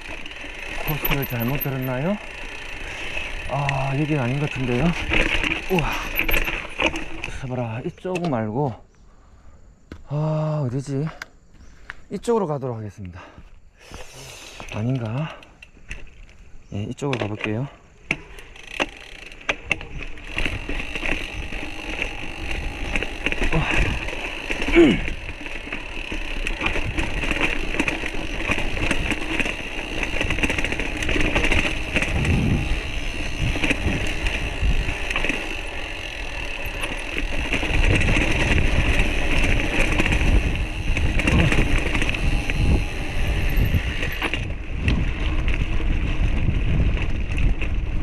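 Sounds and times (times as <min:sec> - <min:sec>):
bike rattling and clicking: 0:00.0 - 0:08.8, 0:14.6 - 0:48.0
bicycle tyres rumbling: 0:00.0 - 0:12.0, 0:13.2 - 0:48.0.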